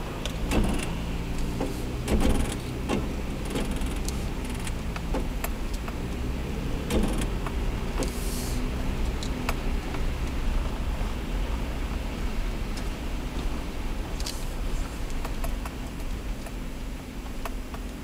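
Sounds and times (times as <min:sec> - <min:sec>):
car engine and tyres on slush: 0:00.0 - 0:18.0.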